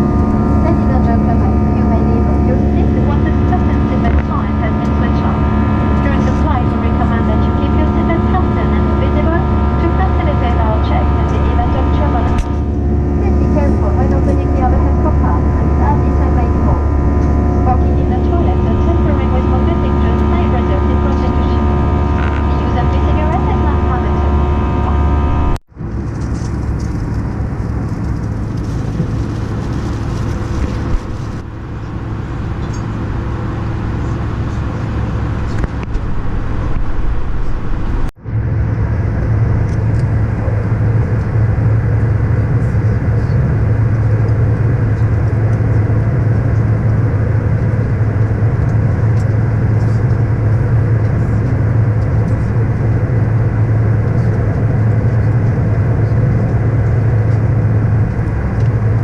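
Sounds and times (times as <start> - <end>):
vehicle running hum: 0.0 - 59.0.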